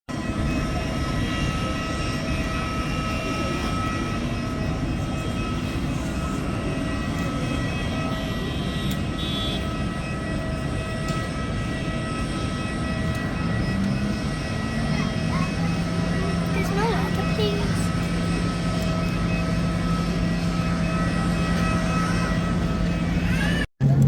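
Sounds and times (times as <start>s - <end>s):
aircraft machinery rumble and hum: 0.1s - 24.0s
steady whining tones: 0.1s - 24.0s.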